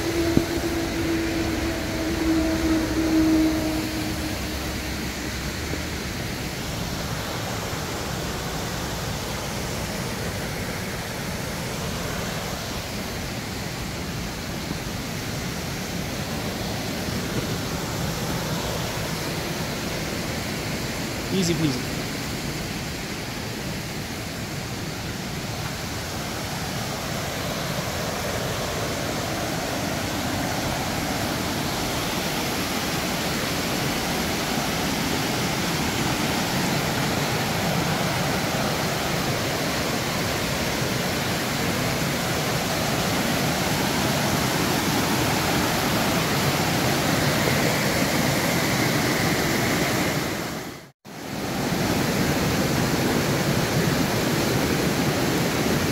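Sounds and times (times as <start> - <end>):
river cascade roaring: 0.0 - 55.9.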